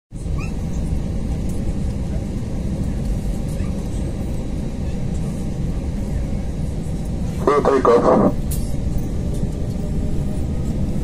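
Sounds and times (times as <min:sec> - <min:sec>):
airliner cabin engine rumble: 0:00.1 - 0:11.0.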